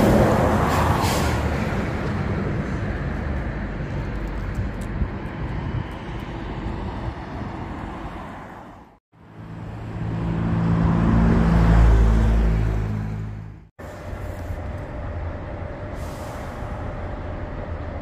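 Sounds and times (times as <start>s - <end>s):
large vehicle passing: 0.0s - 15.2s
traffic rumble: 0.0s - 18.0s.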